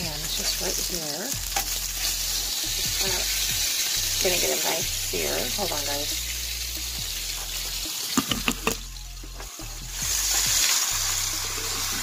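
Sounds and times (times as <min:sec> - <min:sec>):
steaks sizzling in a frying pan: 0:00.0 - 0:12.0.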